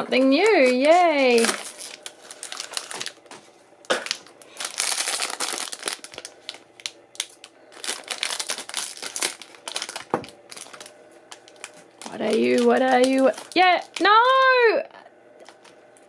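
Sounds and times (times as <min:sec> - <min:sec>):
foil wrapper crinkling: 0:00.0 - 0:14.4, 0:15.4 - 0:16.0.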